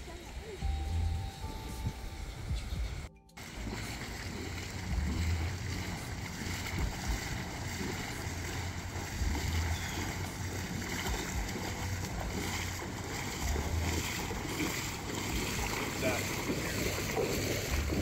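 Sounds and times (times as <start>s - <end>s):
wind buffeting microphone: 0.1s - 18.0s.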